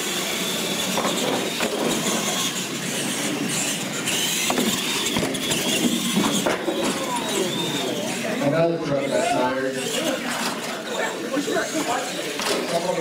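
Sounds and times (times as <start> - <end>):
electric motor and gear whine: 0.0 - 13.0.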